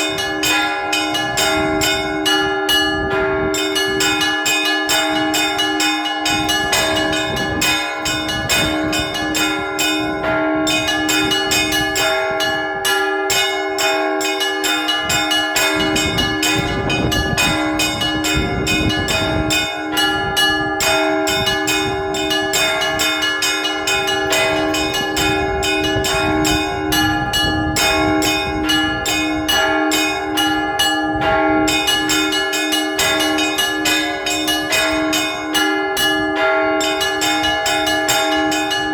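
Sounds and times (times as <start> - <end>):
large bells ringing: 0.0 - 38.9
small high bells striking: 0.0 - 38.9.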